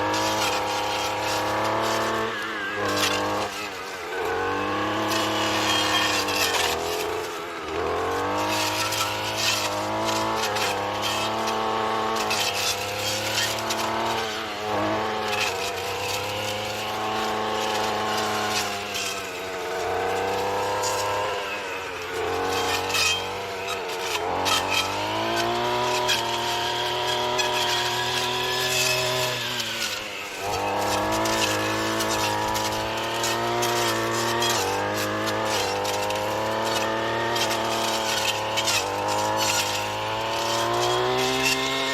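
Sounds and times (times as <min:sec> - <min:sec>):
weed whacker engine revving: 0:00.0 - 0:41.9.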